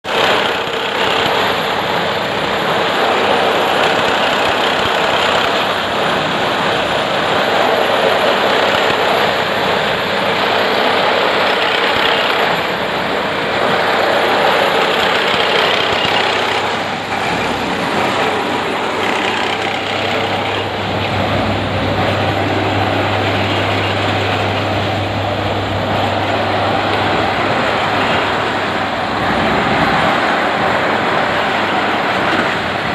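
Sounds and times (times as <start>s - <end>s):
track tamping machine working: 0.0s - 32.9s.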